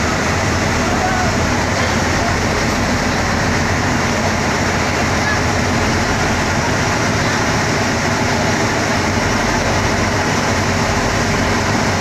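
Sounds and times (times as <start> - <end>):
ship engine drone: 0.0 - 12.0
water rushing: 0.0 - 12.0
wind: 0.0 - 12.0.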